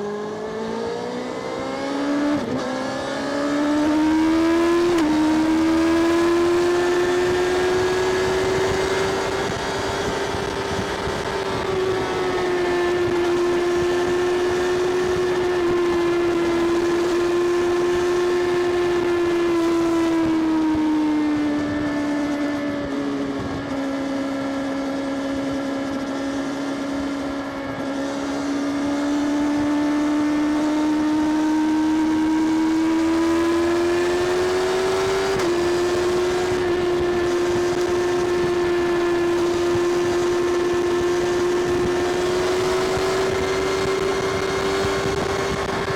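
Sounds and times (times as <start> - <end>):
motorcycle engine high-pitched drone: 0.0 - 45.9.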